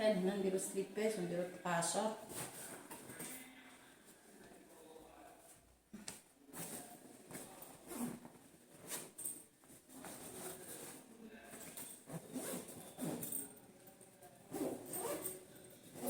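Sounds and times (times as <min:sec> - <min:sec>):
clothes and bags rustling: 0:00.0 - 0:16.0.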